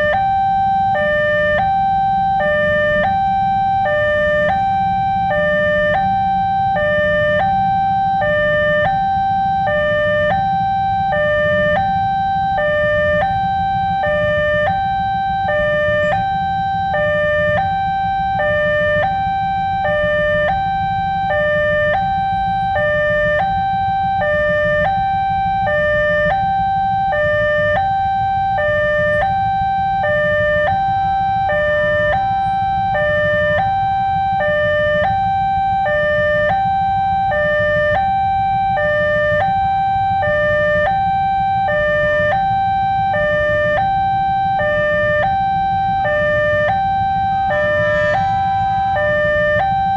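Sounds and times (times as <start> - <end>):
electronic two-tone siren: 0.0 - 49.9.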